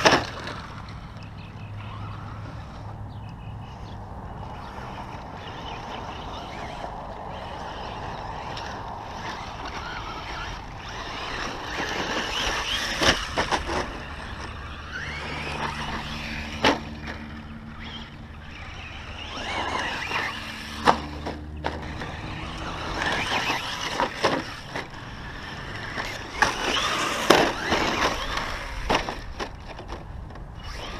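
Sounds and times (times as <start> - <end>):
tyres scrabbling on dirt: 0.0 - 3.0, 3.7 - 30.9
rc truck motor whining: 0.0 - 30.9.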